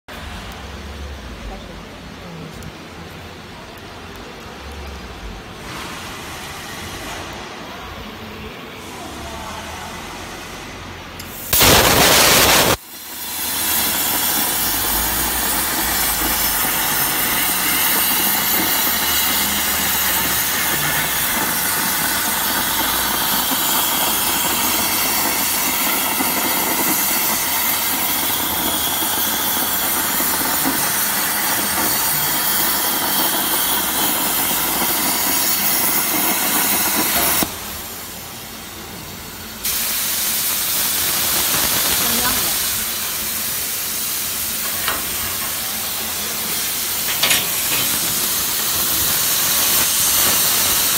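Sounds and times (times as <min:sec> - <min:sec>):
loud rush of hiss: 0:05.2 - 0:50.9
plasma torch hissing: 0:08.7 - 0:50.9.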